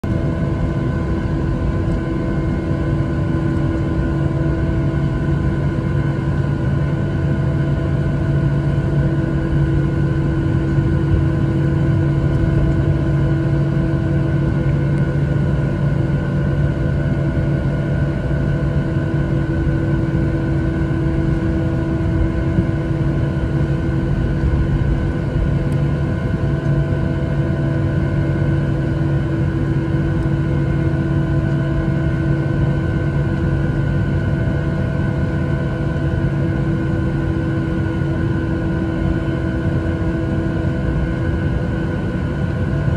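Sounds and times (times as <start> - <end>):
jet engines humming and whining: 0.0 - 42.9.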